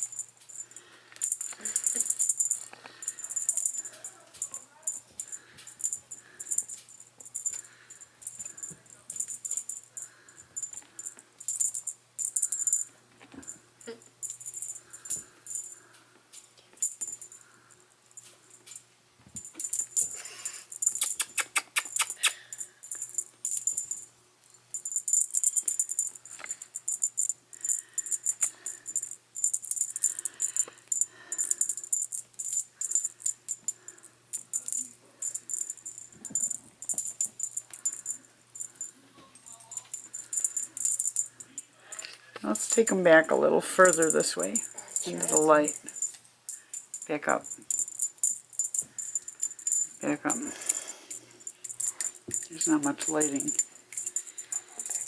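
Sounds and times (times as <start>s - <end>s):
cat toy rattling: 0.0s - 13.6s, 18.2s - 24.0s, 24.7s - 43.2s, 43.8s - 55.0s.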